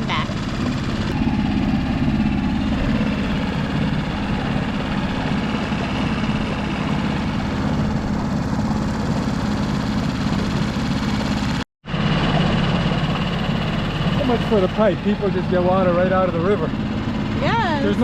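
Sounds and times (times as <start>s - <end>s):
outboard motor drone: 0.0s - 18.0s.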